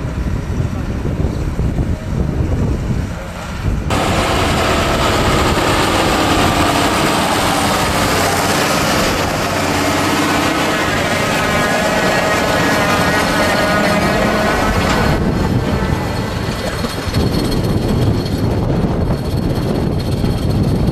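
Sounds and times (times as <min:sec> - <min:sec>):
tractor engine with whine: 0:00.0 - 0:20.9
wind buffeting microphone: 0:00.0 - 0:20.9.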